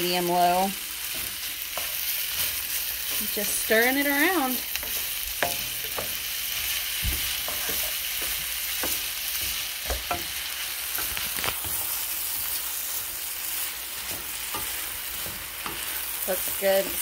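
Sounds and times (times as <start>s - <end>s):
rice sizzling in skillet: 0.0s - 17.0s
spatula scraping pan: 0.1s - 17.0s.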